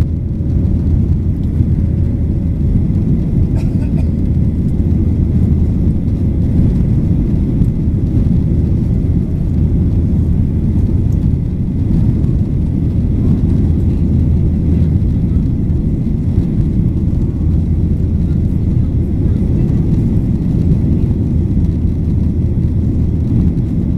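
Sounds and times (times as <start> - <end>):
airplane cabin rumble: 0.0 - 23.9.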